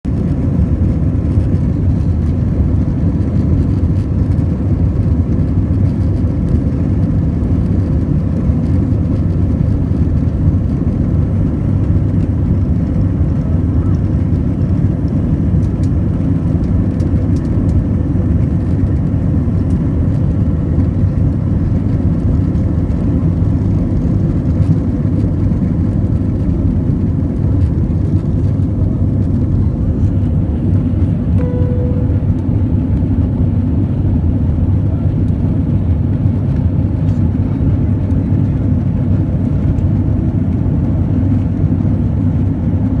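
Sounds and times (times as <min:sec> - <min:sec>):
airplane engines low rumble: 0:00.0 - 0:43.0.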